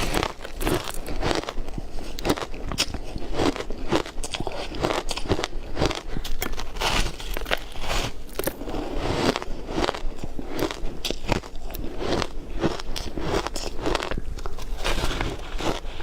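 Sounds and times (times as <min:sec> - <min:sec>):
ice crunching between teeth: 0:00.0 - 0:16.0.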